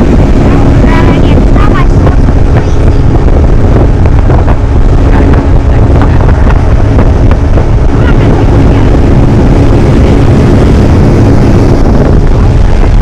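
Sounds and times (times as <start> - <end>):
motorboat motor running: 0.0 - 13.0
wind buffeting microphone: 0.0 - 13.0.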